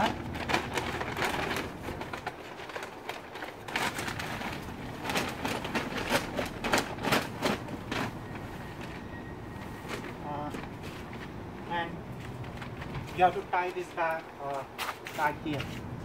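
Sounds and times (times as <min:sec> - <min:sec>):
paper bag crackling and rustling: 0:00.0 - 0:15.9.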